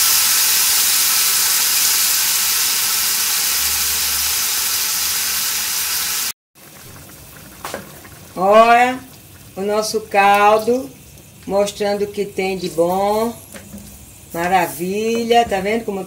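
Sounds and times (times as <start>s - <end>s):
meat sizzling in a frying pan: 0.0s - 15.3s.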